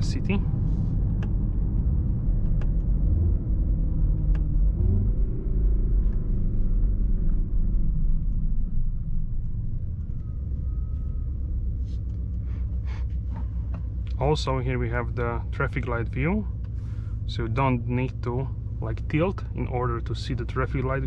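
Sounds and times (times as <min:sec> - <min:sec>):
car engine rumble inside cabin: 0:00.0 - 0:21.0.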